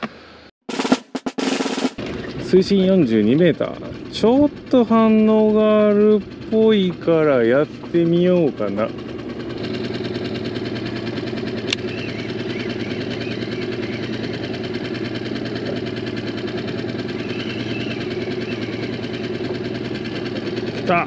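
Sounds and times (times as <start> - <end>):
fast mechanical rattle: 1.6 - 21.0.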